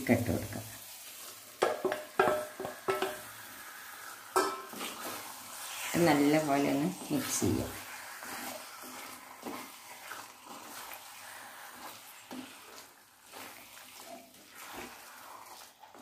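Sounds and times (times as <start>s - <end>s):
frying hiss: 0.0s - 16.0s
spatula squelching and scraping: 1.2s - 16.0s.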